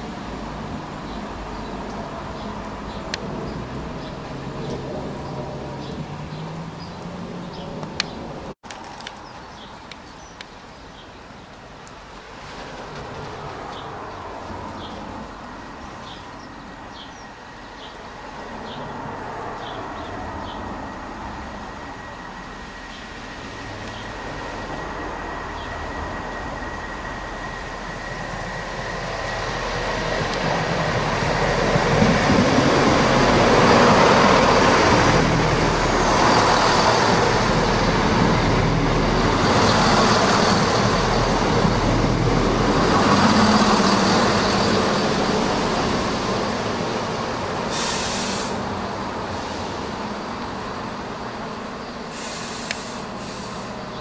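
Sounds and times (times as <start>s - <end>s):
diesel train passing: 0.0s - 10.0s, 10.6s - 54.0s.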